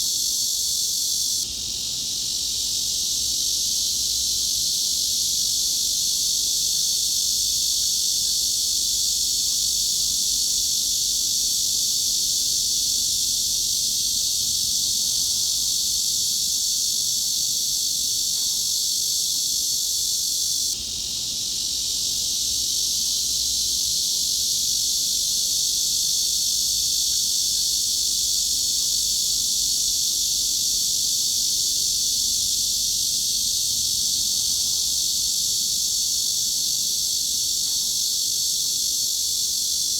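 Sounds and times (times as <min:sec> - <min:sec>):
high-pitched cicada buzz: 0:00.0 - 0:39.9.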